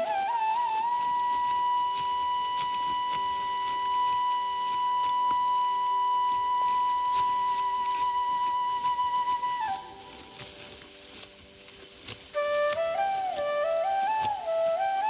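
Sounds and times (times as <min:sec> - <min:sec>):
flute long high note: 0:00.0 - 0:10.7, 0:12.3 - 0:15.0.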